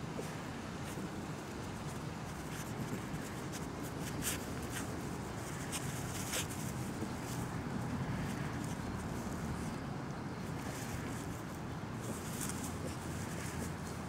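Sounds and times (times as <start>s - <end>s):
grass rustling: 0.2s - 9.8s, 10.5s - 14.0s.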